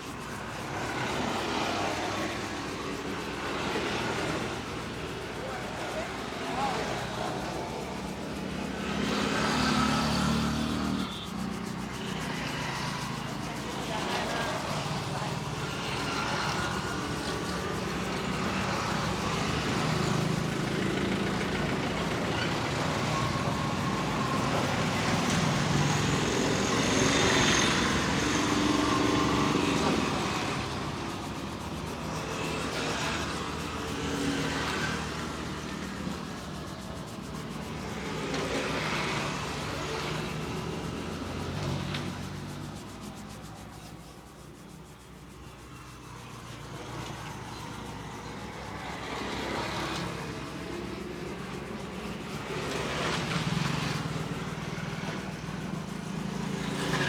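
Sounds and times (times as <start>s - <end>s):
passing road traffic hum: 0.0s - 57.0s.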